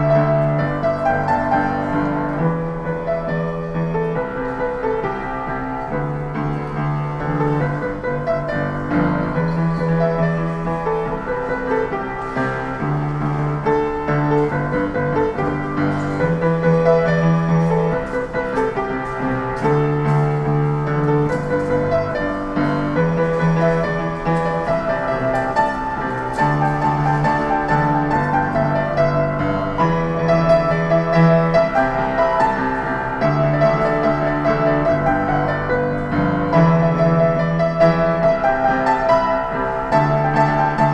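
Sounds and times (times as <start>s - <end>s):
piano playing pop tune: 0.0s - 40.9s.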